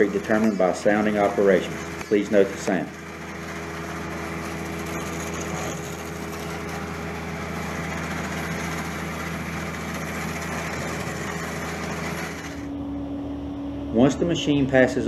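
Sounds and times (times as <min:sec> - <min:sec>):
heavy machinery engine droning: 0:00.0 - 0:15.0.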